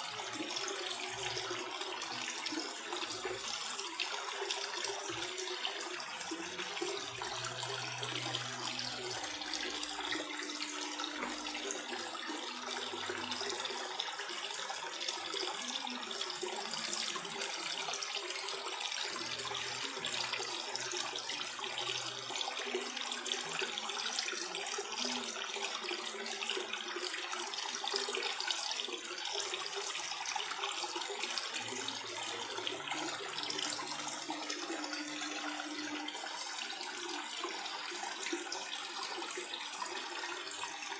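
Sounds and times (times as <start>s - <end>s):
aquarium water splashing: 0.0s - 40.9s.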